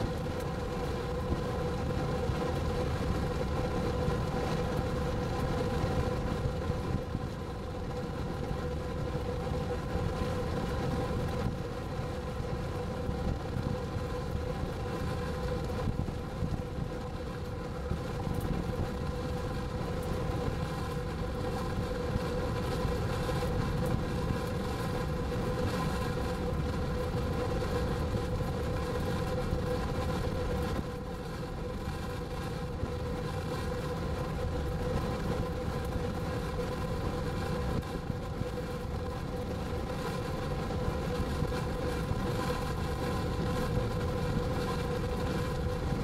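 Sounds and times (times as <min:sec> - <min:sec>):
steady droning hum: 0:00.0 - 0:46.0
wind buffeting microphone: 0:00.0 - 0:46.0.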